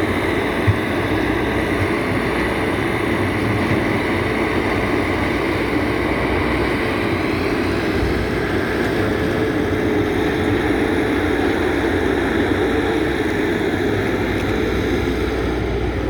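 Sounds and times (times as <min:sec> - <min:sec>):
excavator engine droning: 0:00.0 - 0:16.0.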